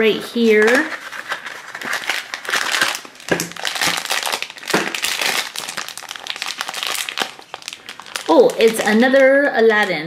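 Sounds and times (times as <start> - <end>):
foil bag rustling and crackling: 0.4 - 10.0.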